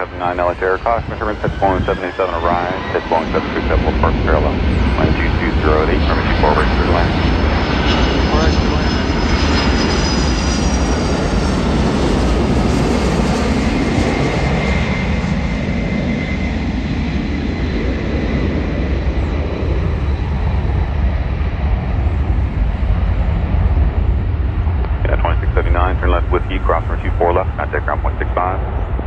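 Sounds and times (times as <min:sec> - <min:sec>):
faint engine whine: 0:00.0 - 0:29.0
jet engines rumbling: 0:00.0 - 0:29.0.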